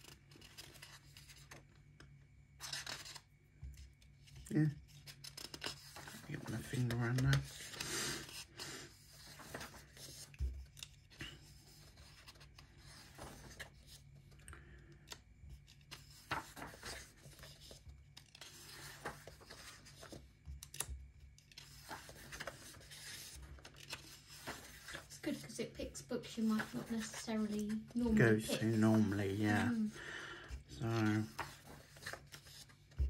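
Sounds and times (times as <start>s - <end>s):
book pages turning: 0.0s - 2.0s, 2.6s - 14.4s, 15.0s - 25.5s, 26.3s - 33.0s.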